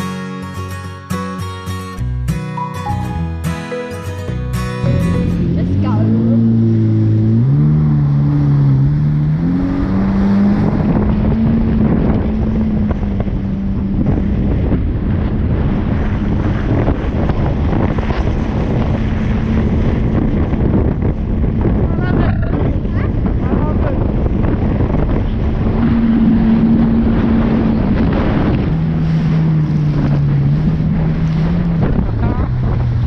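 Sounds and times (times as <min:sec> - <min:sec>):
jet ski engine running: 0:04.4 - 0:33.0
wind buffeting microphone: 0:05.4 - 0:33.0.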